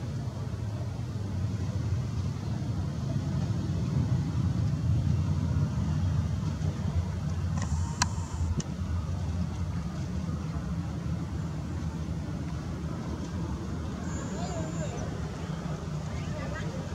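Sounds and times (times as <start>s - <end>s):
steady low aircraft rumble: 0.0s - 16.9s.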